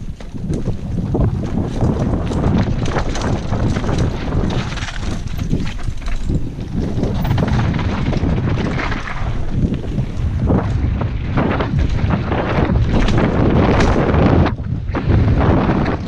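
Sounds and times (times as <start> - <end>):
mountain bike rattling on dirt: 0.0 - 16.0
wind rushing over microphone: 0.0 - 16.0.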